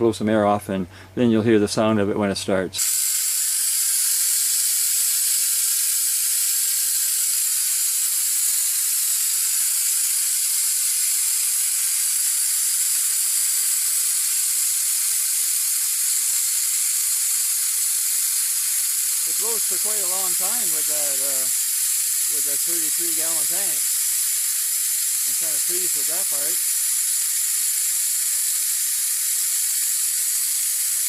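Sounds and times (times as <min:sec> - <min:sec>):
compressed air hissing: 0:02.8 - 0:31.0.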